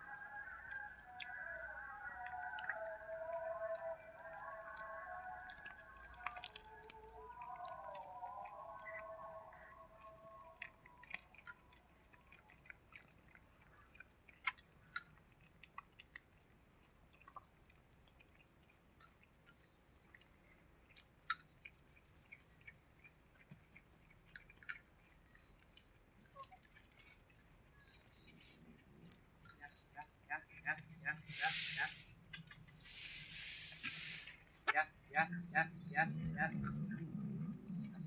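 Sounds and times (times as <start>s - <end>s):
cat chewing food: 0.0s - 38.0s.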